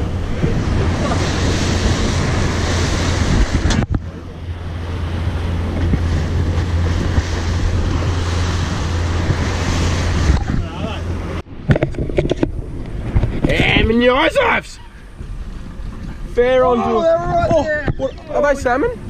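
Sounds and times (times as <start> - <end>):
boat motor droning: 0.0 - 19.0
water rushing past a boat hull: 0.0 - 19.0
wind buffeting the microphone: 0.0 - 19.0.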